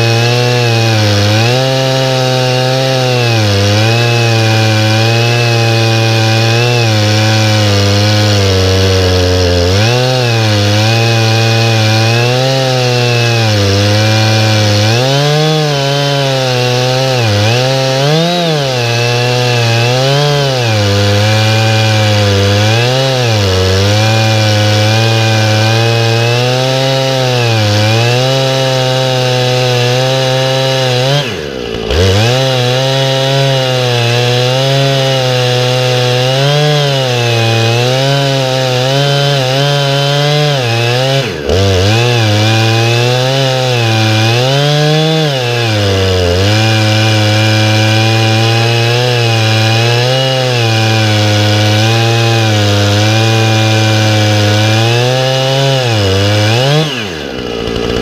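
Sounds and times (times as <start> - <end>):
chainsaw cutting log at full throttle: 0.0 - 58.0.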